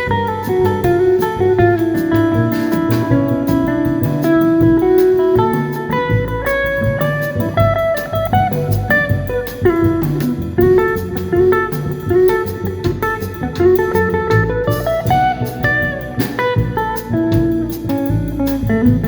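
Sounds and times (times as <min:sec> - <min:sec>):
bass line: 0:00.0 - 0:19.0
guitar picking a melody: 0:00.0 - 0:19.0
ticking drum beat: 0:00.0 - 0:19.0.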